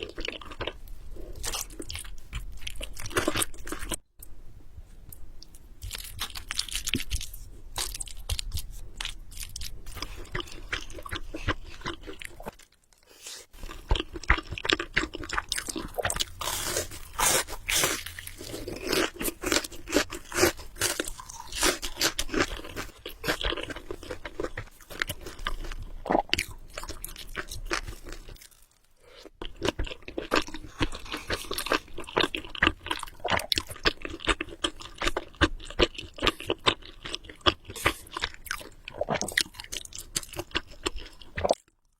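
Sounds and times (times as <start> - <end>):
noodles being chewed and slurped: 5.8 - 41.9.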